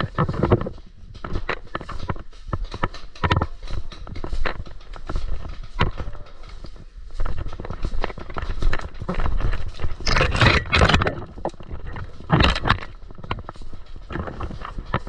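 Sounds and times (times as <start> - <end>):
branches scraping camera: 0.0 - 15.0
leaves and twigs crackling: 0.0 - 15.0.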